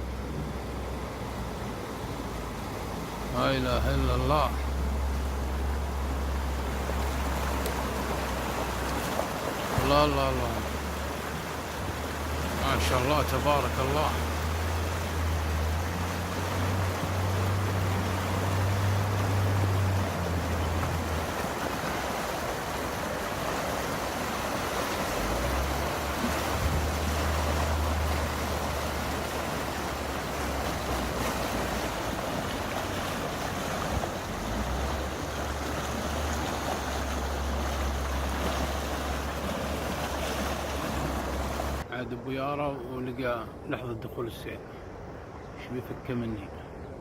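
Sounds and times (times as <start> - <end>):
floodwater rushing: 0.0 - 46.8.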